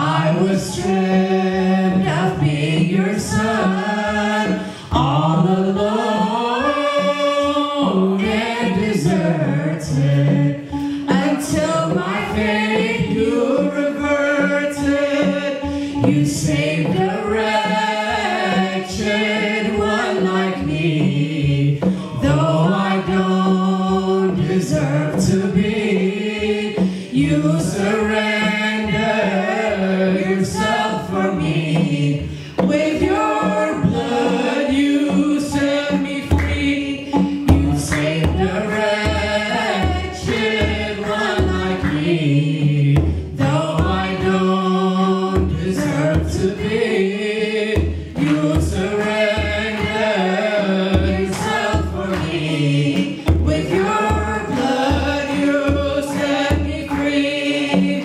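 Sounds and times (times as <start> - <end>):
man and woman singing hymn: 0.0 - 58.0.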